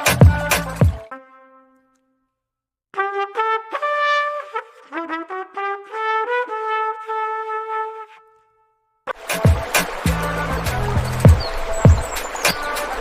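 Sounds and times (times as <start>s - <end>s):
solo brass melody: 0.0s - 2.2s, 3.0s - 11.8s.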